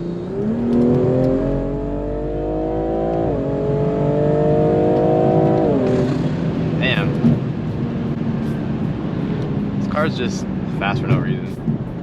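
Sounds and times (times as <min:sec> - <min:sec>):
car engine accelerating hard: 0:00.0 - 0:11.6.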